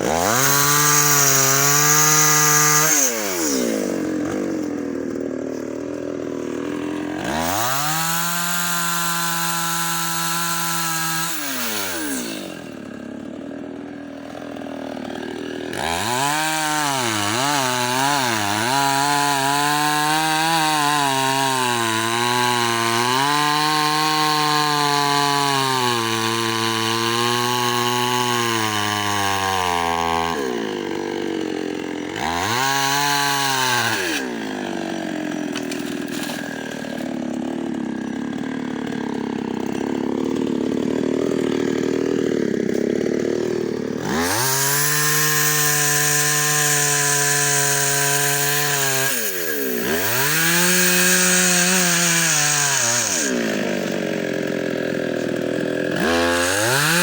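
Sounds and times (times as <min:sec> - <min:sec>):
chainsaw revving and cutting wood: 0:00.0 - 0:57.0.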